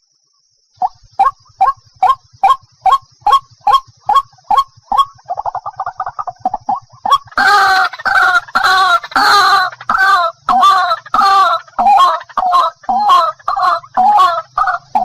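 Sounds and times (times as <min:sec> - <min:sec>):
waterhen calling: 0:00.8 - 0:15.0.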